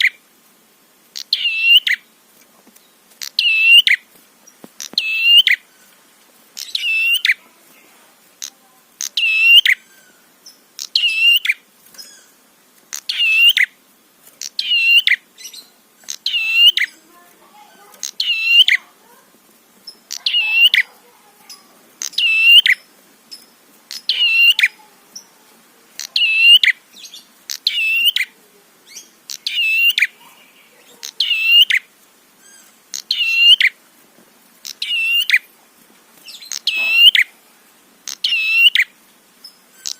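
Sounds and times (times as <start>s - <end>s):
bird chirping call: 0.0s - 0.2s, 1.2s - 2.1s, 2.8s - 6.0s, 6.6s - 7.5s, 8.4s - 13.8s, 14.4s - 19.0s, 19.8s - 25.3s, 26.0s - 33.8s, 34.6s - 35.5s, 36.2s - 37.4s, 38.1s - 39.9s.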